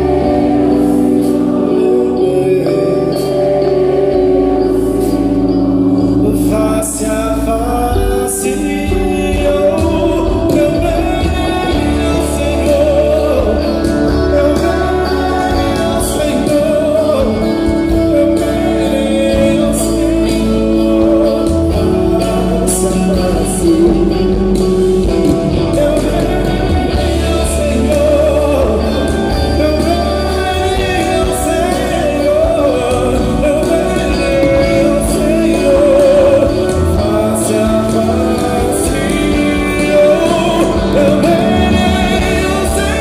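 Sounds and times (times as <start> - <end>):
live band playing gospel song: 0.0 - 43.0.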